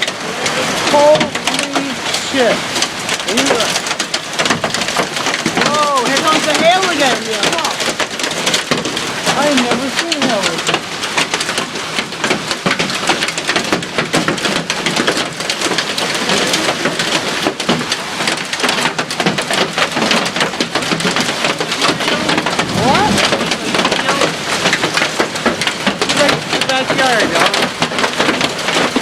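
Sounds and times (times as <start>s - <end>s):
hail and heavy rain pelting: 0.0s - 29.0s.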